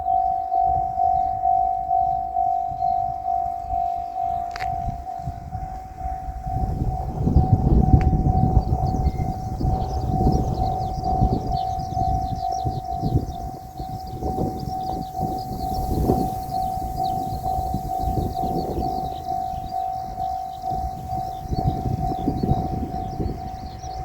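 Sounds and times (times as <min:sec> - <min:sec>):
railroad crossing bell ringing: 0:00.0 - 0:24.0.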